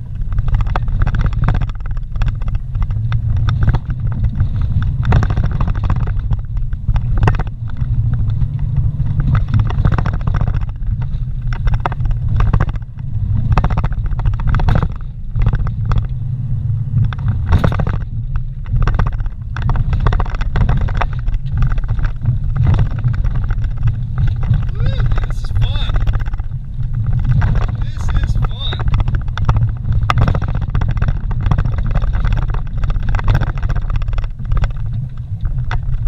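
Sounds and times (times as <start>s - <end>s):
engine and road drone: 0.0s - 36.0s
vehicle knocks and rattles: 0.0s - 36.0s.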